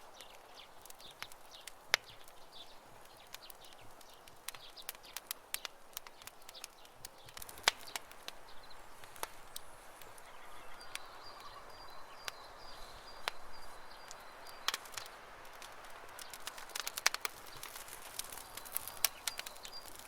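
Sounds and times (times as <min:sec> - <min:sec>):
campfire crackling: 0:00.0 - 0:20.0
faint birds chirping: 0:00.0 - 0:20.0.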